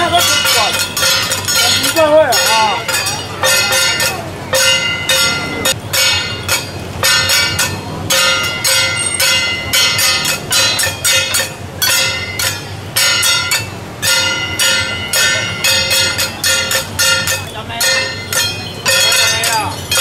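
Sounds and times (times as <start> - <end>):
gongs and cymbals struck rhythmically: 0.0 - 20.0.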